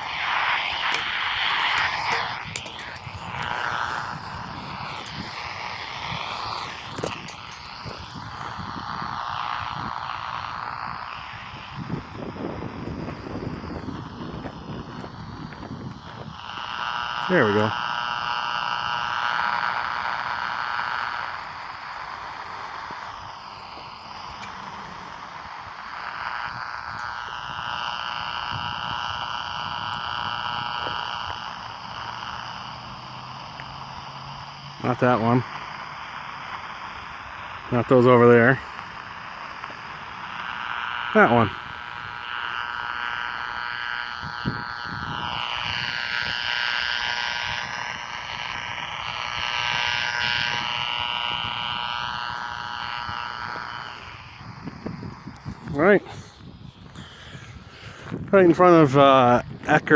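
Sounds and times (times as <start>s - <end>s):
radio static: 0.0s - 59.9s
rasping interference buzz: 0.0s - 59.9s.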